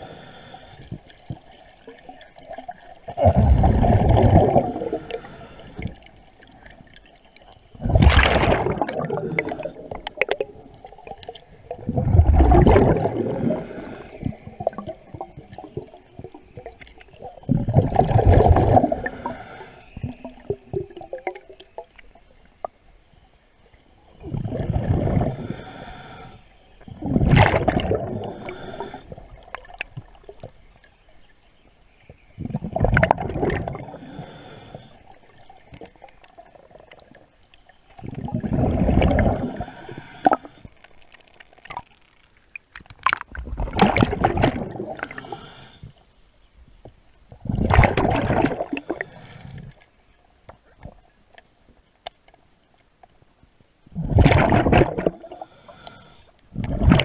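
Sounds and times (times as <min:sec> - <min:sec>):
exhaled bubbles gurgling underwater: 0:00.0 - 0:22.8, 0:23.6 - 0:30.8, 0:32.0 - 0:42.0, 0:42.6 - 0:46.0, 0:47.3 - 0:49.8, 0:53.9 - 0:57.0.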